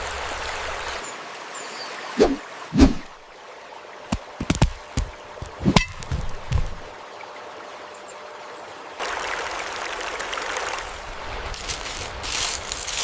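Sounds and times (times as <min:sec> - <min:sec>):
steady rush of water: 0:00.0 - 0:13.0
trickling stream water: 0:00.0 - 0:13.0.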